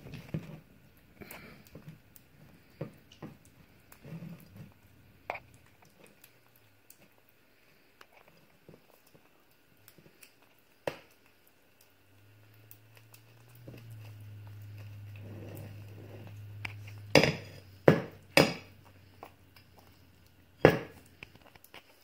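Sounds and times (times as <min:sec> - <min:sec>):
kitten chewing and smacking: 0:00.0 - 0:22.0
low steady hum: 0:00.0 - 0:22.0.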